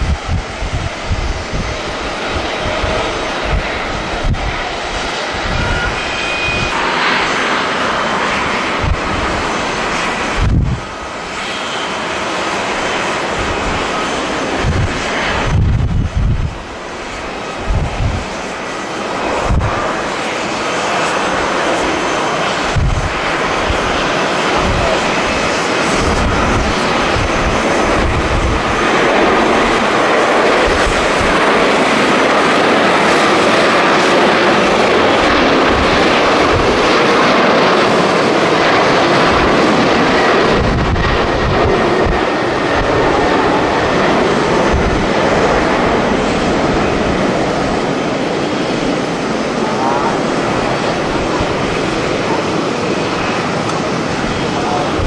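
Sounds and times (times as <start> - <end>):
jet airliner roar: 0.0 - 55.0
wind buffeting microphone: 0.0 - 55.0.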